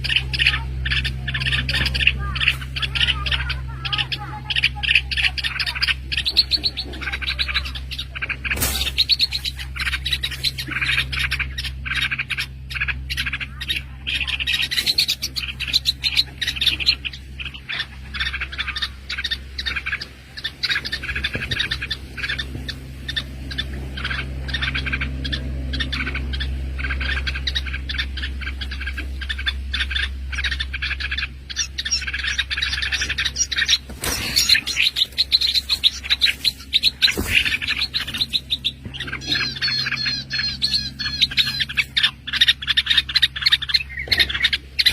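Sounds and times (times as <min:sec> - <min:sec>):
small birds chirping: 0:00.0 - 0:44.9
steady low hum: 0:00.0 - 0:44.9.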